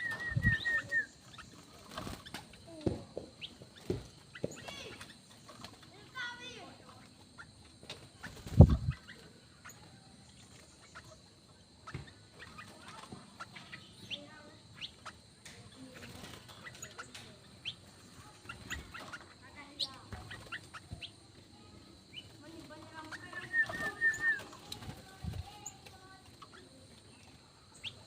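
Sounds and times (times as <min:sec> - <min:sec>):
birds chirping and calling: 0:00.0 - 0:28.0.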